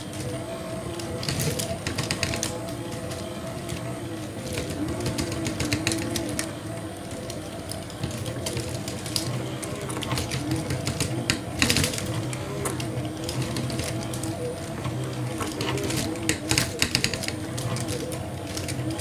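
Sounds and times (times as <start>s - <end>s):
toy ride model whirring and clattering: 0.0s - 19.0s.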